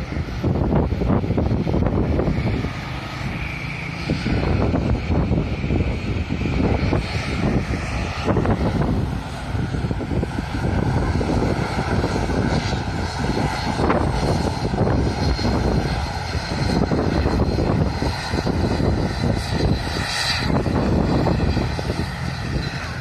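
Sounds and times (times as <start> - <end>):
airliner engines running: 0.0 - 23.0
wind buffeting microphone: 0.0 - 23.0.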